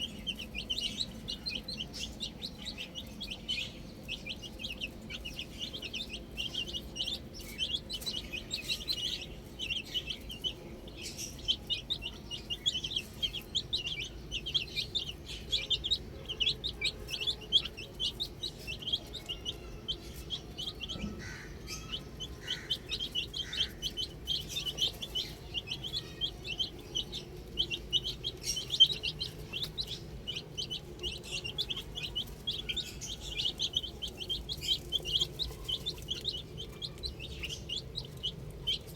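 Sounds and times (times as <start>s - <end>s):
baby chicks peeping: 0.0s - 38.9s
lower bird calls: 0.0s - 38.9s.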